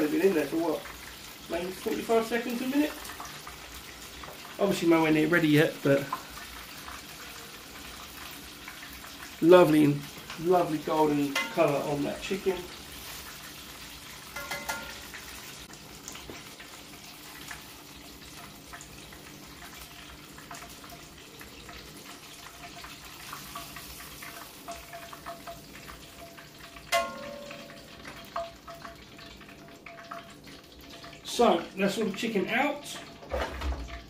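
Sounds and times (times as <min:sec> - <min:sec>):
chicken deep-frying in oil: 0:00.0 - 0:34.0.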